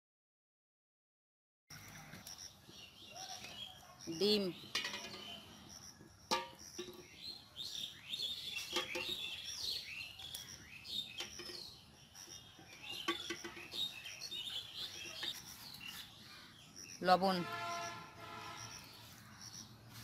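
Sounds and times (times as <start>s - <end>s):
small birds chirping: 1.7s - 20.0s.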